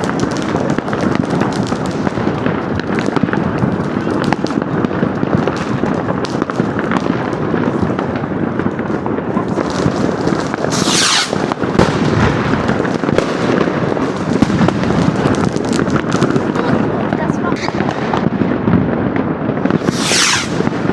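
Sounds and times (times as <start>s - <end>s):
firecrackers crackling and banging: 0.0s - 20.9s.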